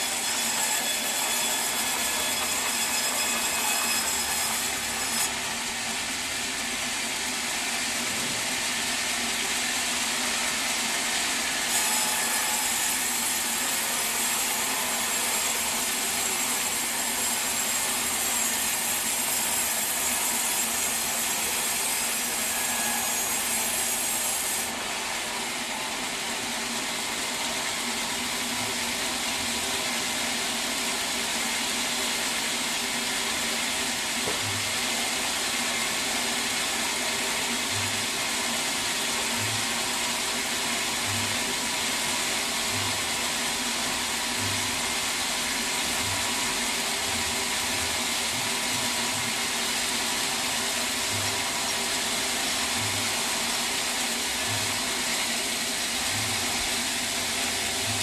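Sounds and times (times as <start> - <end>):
saw cutting log: 0.0 - 58.0
sawmill machinery running: 0.0 - 58.0.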